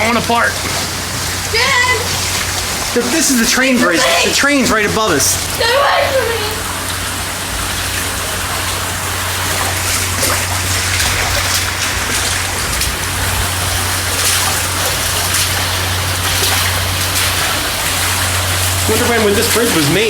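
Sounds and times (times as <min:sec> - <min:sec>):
faint water splashes: 0:00.0 - 0:20.0
water rushing: 0:00.0 - 0:20.0.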